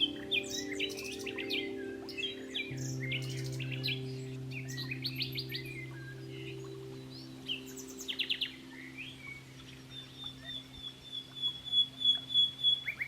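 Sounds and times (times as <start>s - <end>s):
soft background music: 0.0s - 13.0s
songbirds chirping: 0.0s - 13.0s.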